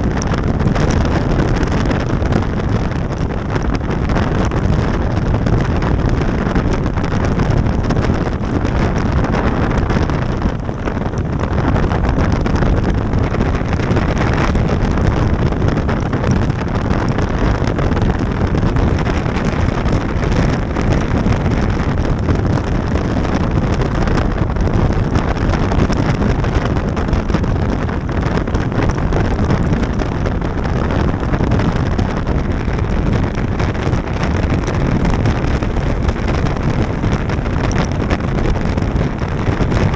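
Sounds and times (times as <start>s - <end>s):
motorcycle engine and road noise: 0.0s - 39.9s
wind rushing over microphone: 0.0s - 39.9s.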